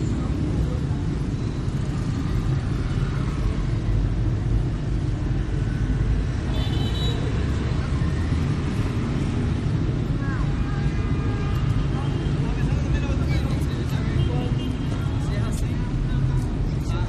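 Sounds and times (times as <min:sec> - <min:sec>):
passing motorbikes and cars: 0:00.0 - 0:17.0.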